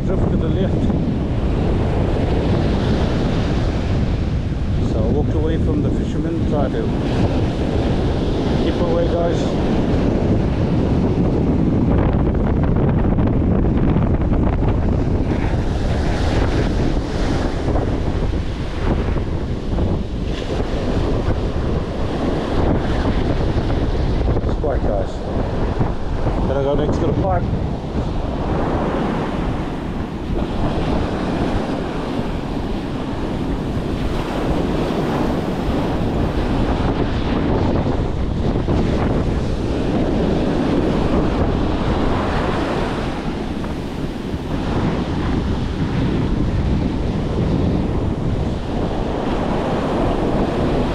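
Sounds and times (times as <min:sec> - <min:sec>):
surf breaking on shore: 0:00.0 - 0:50.9
wind buffeting microphone: 0:00.0 - 0:50.9.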